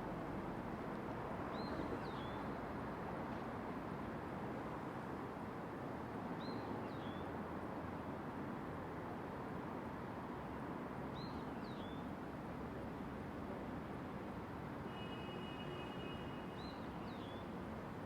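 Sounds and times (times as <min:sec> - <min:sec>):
distant city traffic hum: 0:00.0 - 0:18.0.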